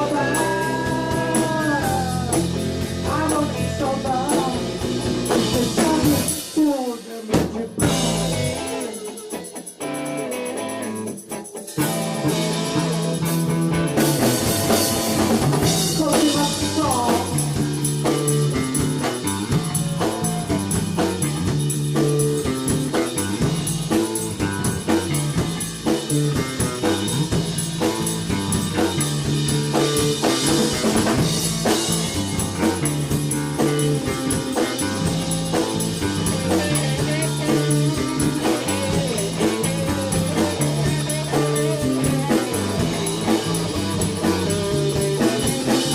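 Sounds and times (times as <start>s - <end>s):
bass guitar line: 0.0s - 45.9s
drum kit: 0.0s - 45.9s
electric guitar: 0.0s - 45.9s.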